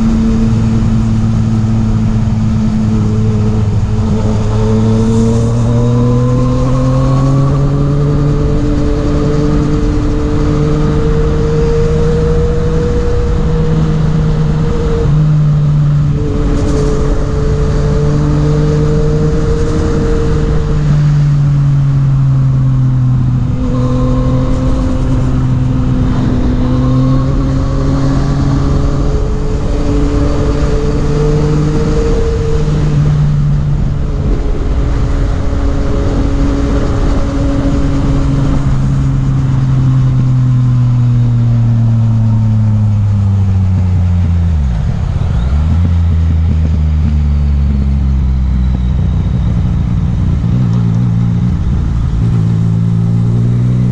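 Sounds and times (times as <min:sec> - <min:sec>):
motorcycle engine revving: 0:00.0 - 0:53.9
wind rush: 0:00.0 - 0:53.9.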